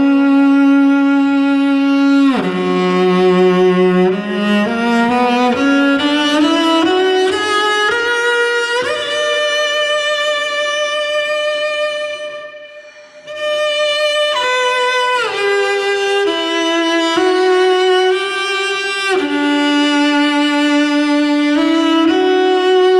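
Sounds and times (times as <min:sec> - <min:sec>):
solo cello bowing: 0:00.0 - 0:22.9.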